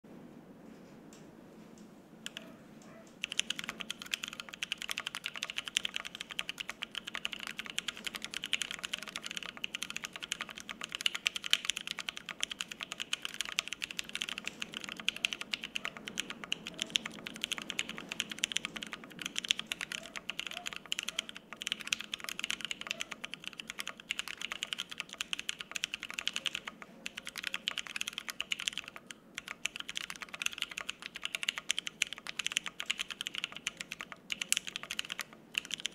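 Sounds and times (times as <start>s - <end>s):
fast typing on mechanical keyboard: 2.2s - 2.5s, 3.2s - 35.9s.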